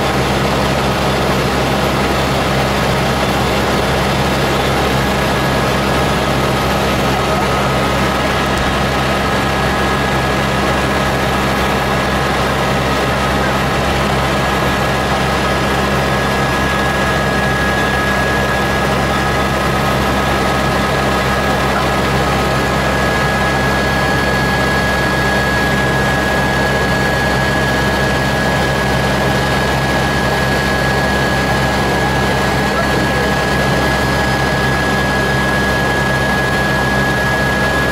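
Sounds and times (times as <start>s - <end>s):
constant high whine: 0.0s - 37.9s
helicopter rotor and engine drone: 0.0s - 37.9s.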